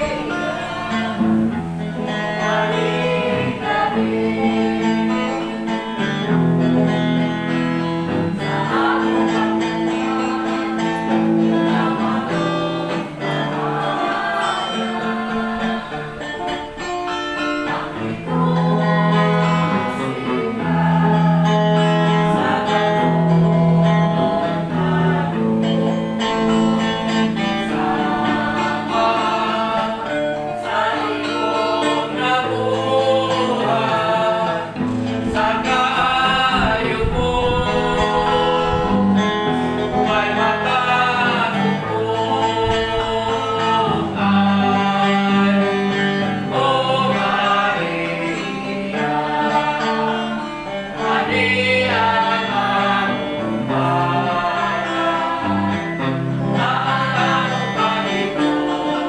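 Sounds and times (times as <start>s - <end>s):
guitar accompaniment: 0.0s - 59.0s
person singing: 0.0s - 59.0s.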